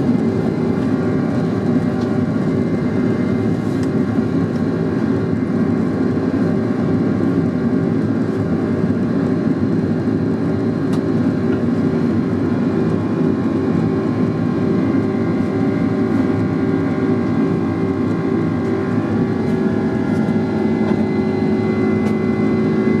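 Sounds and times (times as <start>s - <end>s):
jet engines roaring in cabin: 0.0s - 23.0s.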